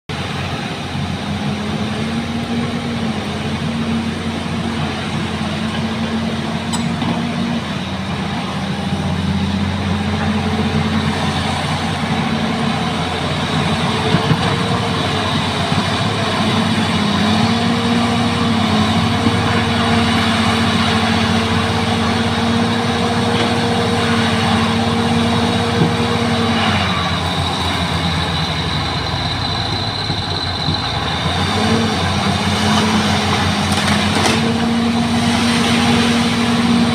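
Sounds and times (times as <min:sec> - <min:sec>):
diesel engine under heavy load: 0:00.1 - 0:36.9.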